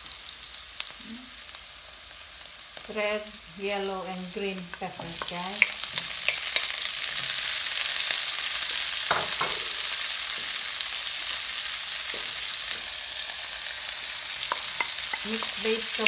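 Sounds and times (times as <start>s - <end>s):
peppers sizzling in frying pan: 0.0s - 16.0s.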